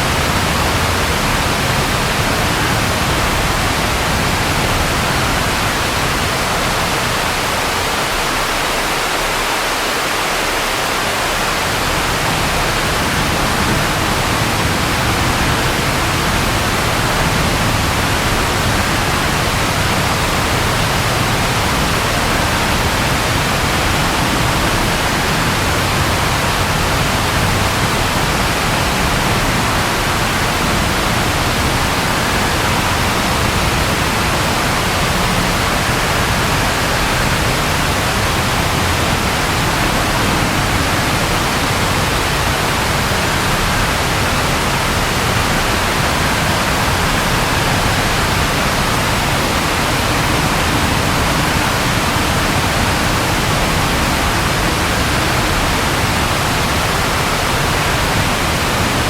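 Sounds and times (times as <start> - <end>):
loud rain: 0.0 - 59.0.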